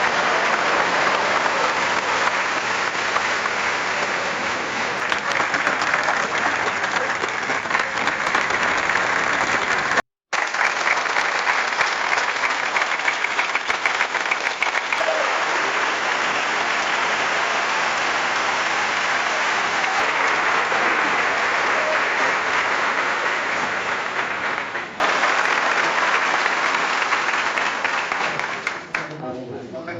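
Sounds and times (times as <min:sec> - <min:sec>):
crowd applause: 0:00.0 - 0:29.2.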